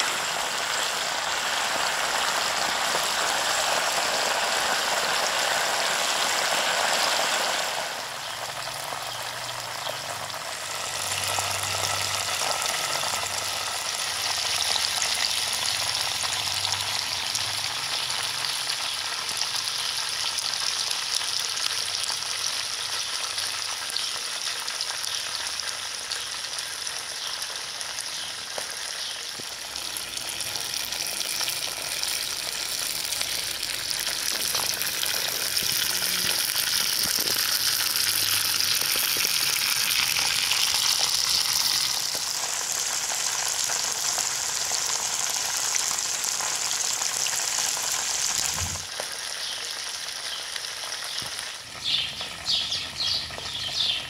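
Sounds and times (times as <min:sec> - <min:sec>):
oil sizzling and bubbling: 0:00.0 - 0:54.0.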